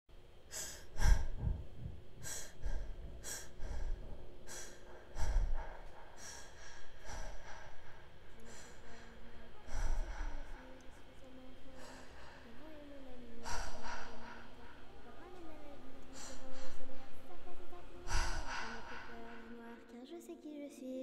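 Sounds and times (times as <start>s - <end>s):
person breathing heavily: 0.5s - 19.8s.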